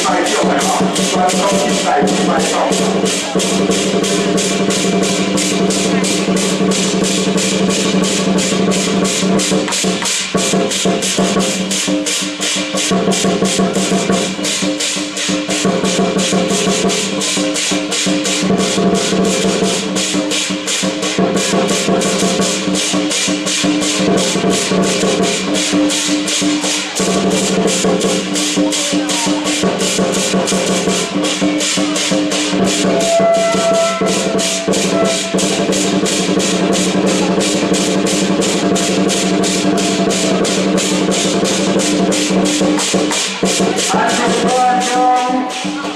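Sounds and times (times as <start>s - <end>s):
fast drum beat: 0.0s - 45.9s
jangling metal percussion: 0.0s - 45.9s.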